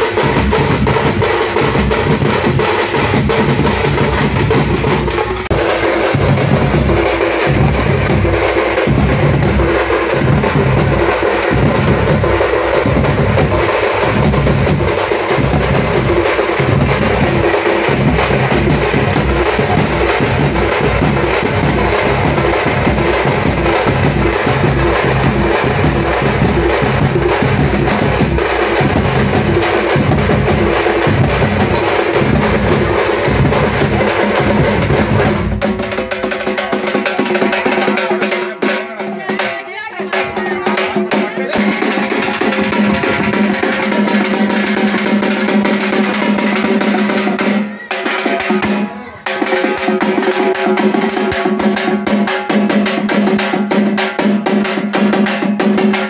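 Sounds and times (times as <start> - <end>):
bass drums beating: 0.0 - 56.0
side drums: 0.0 - 56.0.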